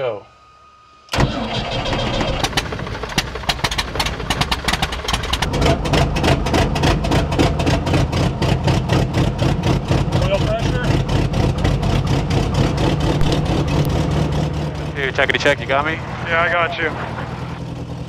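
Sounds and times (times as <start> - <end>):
propeller aircraft engine running: 1.1 - 18.0.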